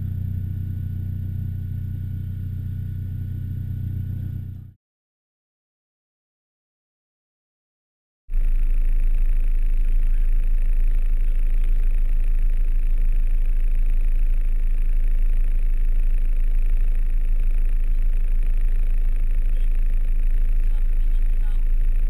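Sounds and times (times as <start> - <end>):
van engine droning: 0.0 - 4.8, 8.3 - 22.0.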